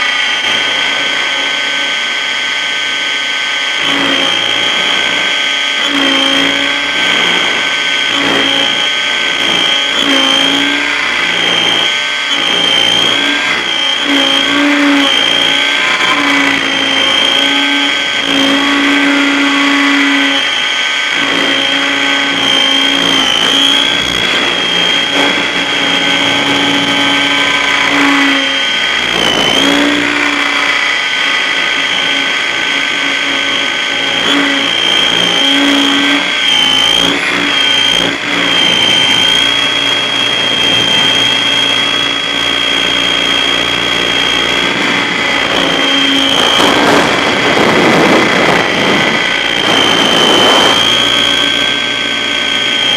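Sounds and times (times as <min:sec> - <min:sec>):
helicopter rotor: 0:00.0 - 0:52.9
low rising and falling tone: 0:00.0 - 0:52.9
rc helicopter motor whine: 0:00.0 - 0:52.9.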